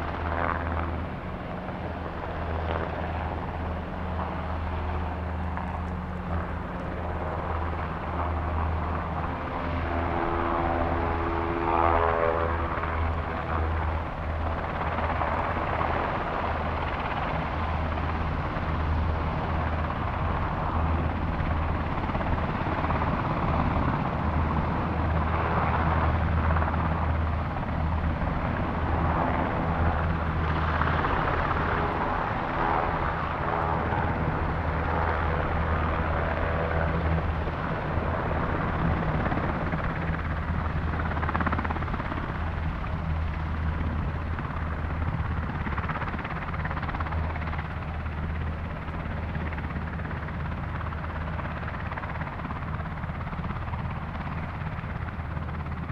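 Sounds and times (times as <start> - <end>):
high engine whine: 0.0 - 51.2
helicopter rotor drone: 0.0 - 55.9.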